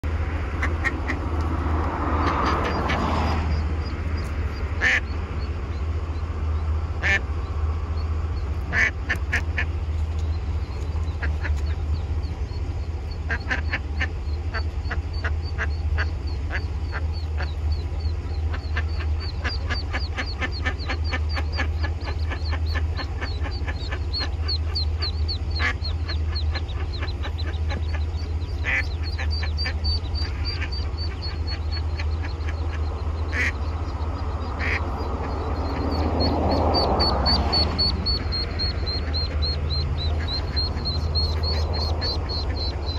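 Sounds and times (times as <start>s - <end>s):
ducklings peeping: 0.0s - 42.9s
steady low hum: 0.0s - 42.9s
duck quacking: 0.5s - 1.4s, 2.0s - 3.4s, 4.8s - 5.1s, 7.0s - 7.3s, 8.6s - 9.8s, 11.0s - 12.0s, 13.2s - 42.9s.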